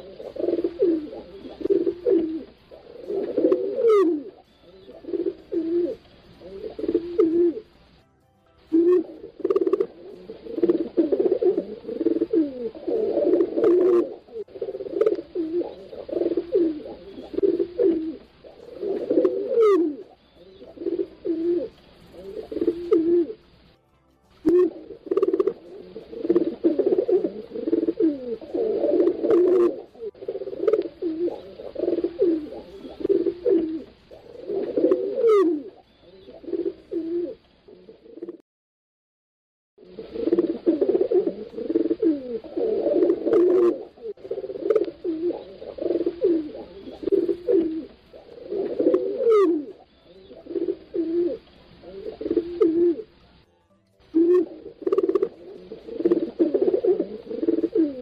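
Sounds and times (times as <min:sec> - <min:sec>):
pigeons cooing: 0:00.0 - 0:08.0, 0:08.7 - 0:23.6, 0:24.4 - 0:38.4, 0:39.8 - 0:53.4, 0:54.1 - 0:58.0.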